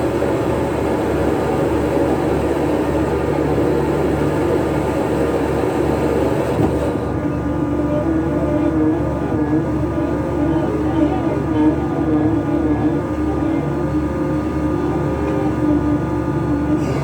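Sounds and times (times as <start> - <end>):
deck machinery running: 0.0 - 17.0
diesel engine drone: 0.0 - 17.0.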